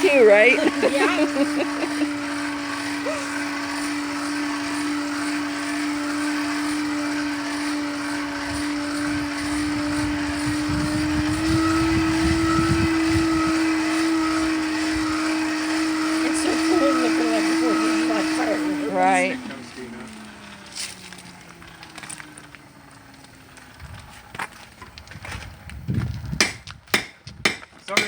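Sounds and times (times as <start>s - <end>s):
electric air blower humming: 0.0s - 24.9s.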